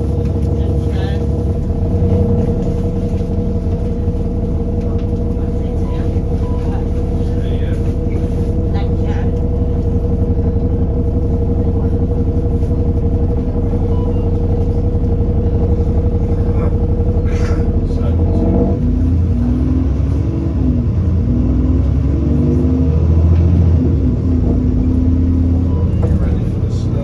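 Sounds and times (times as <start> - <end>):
bus engine humming: 0.0 - 27.0.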